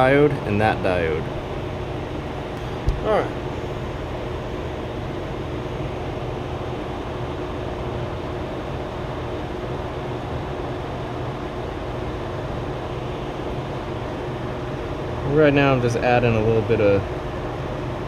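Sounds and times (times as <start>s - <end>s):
fan humming and hissing: 0.0s - 18.0s.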